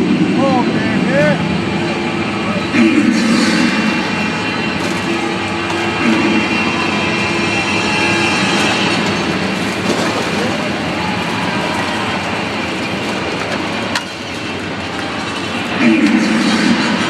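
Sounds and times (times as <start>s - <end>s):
large engine roaring: 0.0s - 17.0s.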